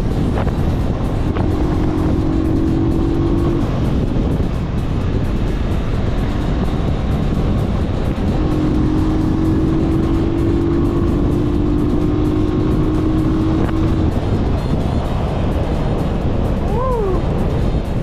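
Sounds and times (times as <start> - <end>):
background music: 0.0 - 18.0
motorcycle engine running: 0.0 - 18.0
steady tone: 0.0 - 18.0
wind noise on microphone: 0.0 - 18.0.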